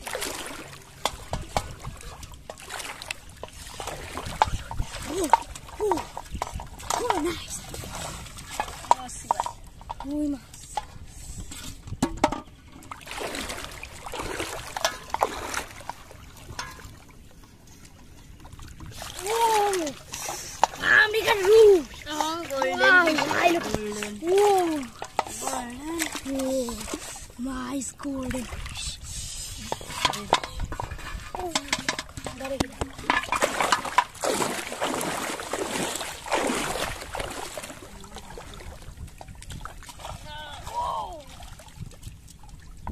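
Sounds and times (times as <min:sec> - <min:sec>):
people wading through water: 0:00.0 - 0:42.9.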